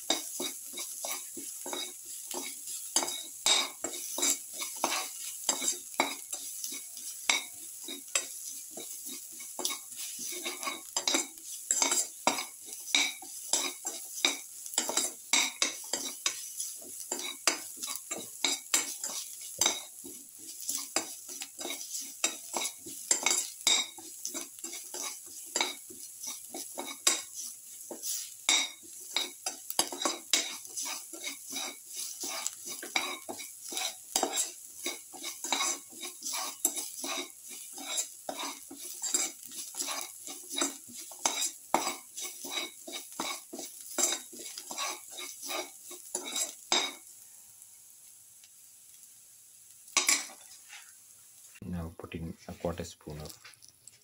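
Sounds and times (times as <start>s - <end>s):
spatula scraping steel pan: 0.0s - 47.0s
onions sizzling in oil: 0.0s - 51.6s, 53.0s - 54.0s.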